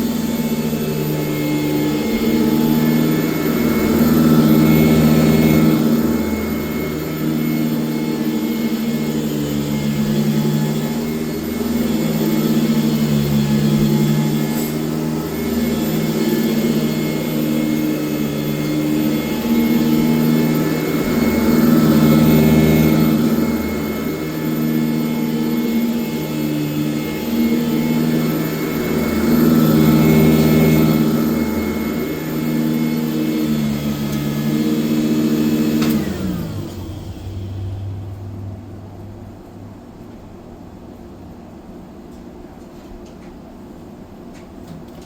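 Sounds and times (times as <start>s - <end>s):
vacuum motor spinning down: 0.0s - 41.2s
upright vacuum cleaner running: 0.0s - 41.6s.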